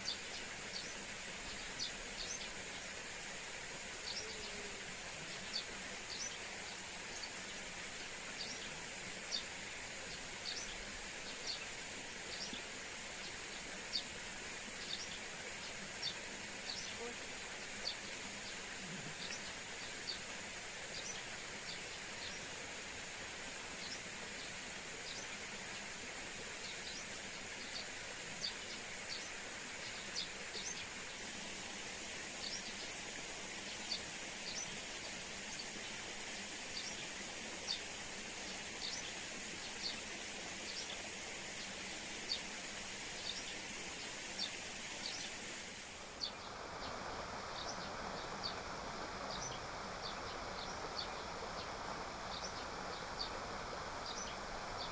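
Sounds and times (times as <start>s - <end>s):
steady forest hiss: 0.0s - 54.9s.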